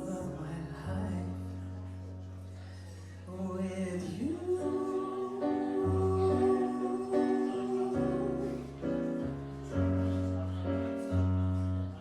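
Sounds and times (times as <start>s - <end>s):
slow ballad instrumental chords: 0.0s - 12.0s.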